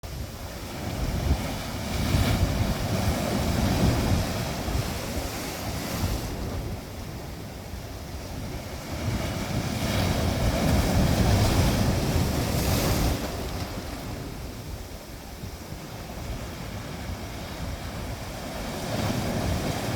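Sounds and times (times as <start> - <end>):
sea waves rushing onto shore: 0.0 - 19.9.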